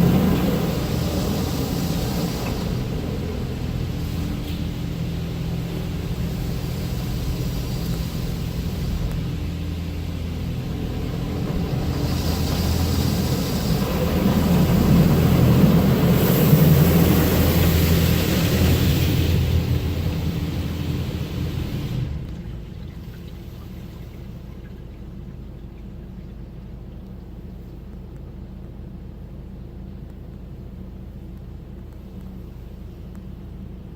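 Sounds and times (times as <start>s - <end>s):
car wash machinery hum: 0.0s - 33.9s
rush of car wash noise: 0.0s - 33.9s.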